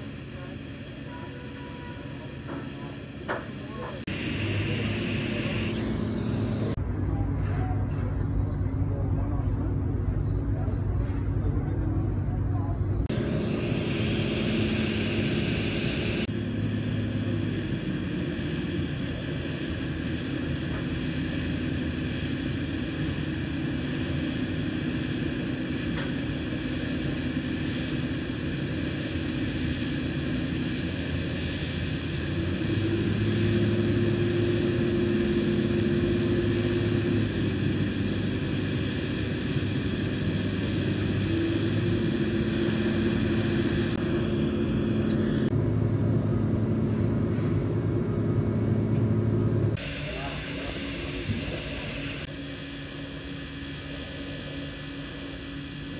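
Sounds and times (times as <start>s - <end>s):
welding arc hum and hiss: 0.0s - 47.3s, 48.1s - 55.9s.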